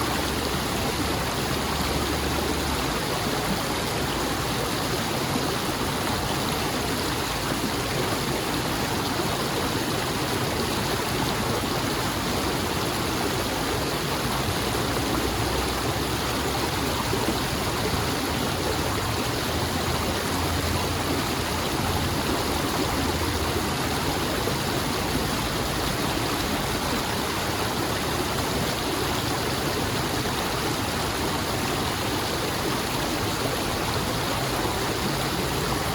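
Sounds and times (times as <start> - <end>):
stream flowing: 0.0 - 35.9.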